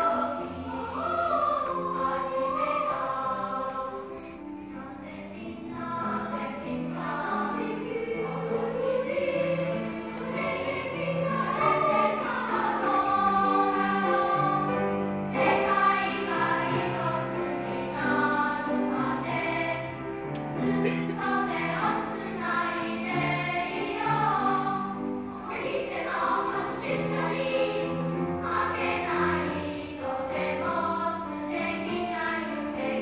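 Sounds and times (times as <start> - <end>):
children's choir singing: 0.0 - 33.0.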